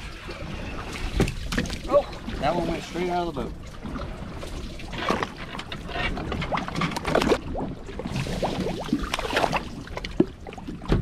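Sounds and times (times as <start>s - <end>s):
seawater sloshing and splashing: 0.0s - 11.0s.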